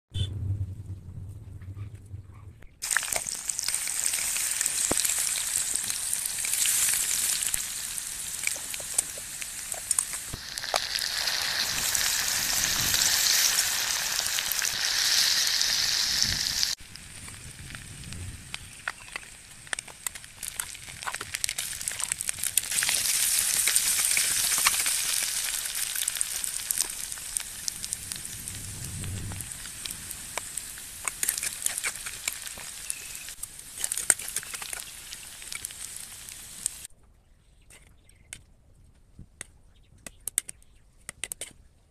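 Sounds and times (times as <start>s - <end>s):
food sizzling in hot oil: 2.8s - 36.9s.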